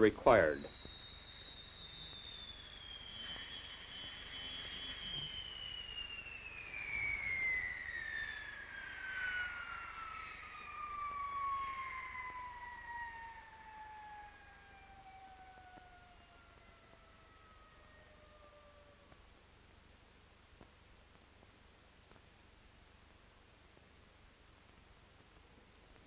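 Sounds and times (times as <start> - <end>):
jet turbine whine spooling down: 0.0 - 26.0.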